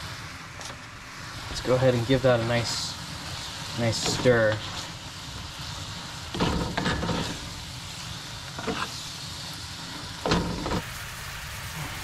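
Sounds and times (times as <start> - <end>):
steak sizzling in a skillet: 0.0 - 12.0.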